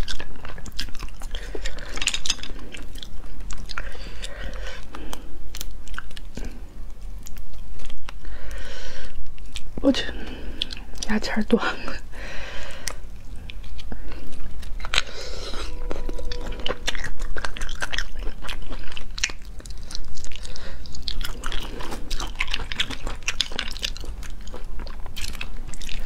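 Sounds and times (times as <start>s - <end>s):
close chewing: 0.0s - 26.0s.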